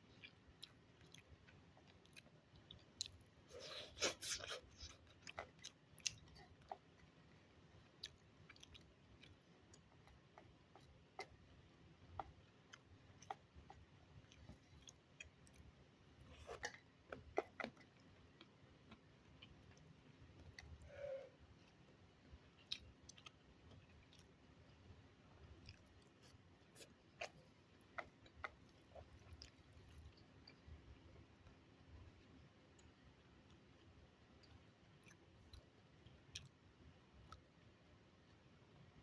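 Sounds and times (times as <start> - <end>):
person chewing food: 0.0 - 36.6.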